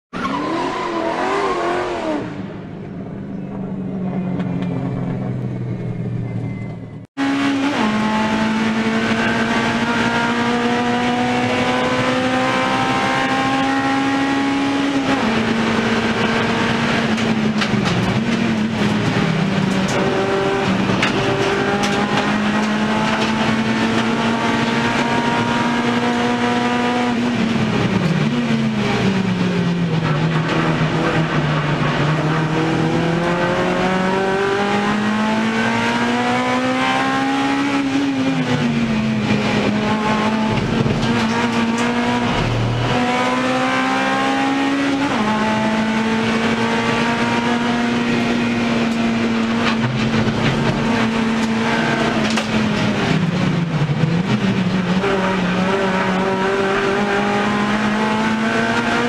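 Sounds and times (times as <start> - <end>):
race car engine at high revs: 0.1 - 6.2, 7.0 - 59.0.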